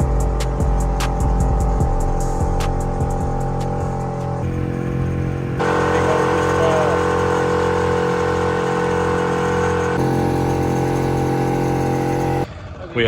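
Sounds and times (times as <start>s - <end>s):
engine running steadily: 0.0s - 12.5s.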